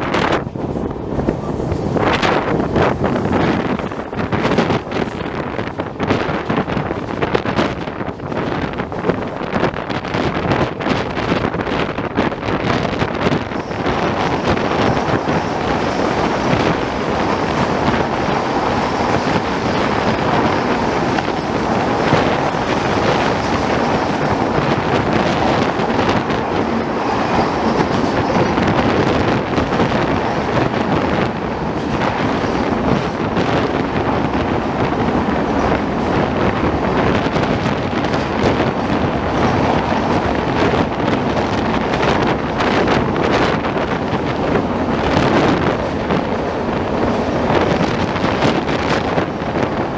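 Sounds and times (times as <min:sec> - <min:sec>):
train coaches rolling on track: 0:00.0 - 0:49.9.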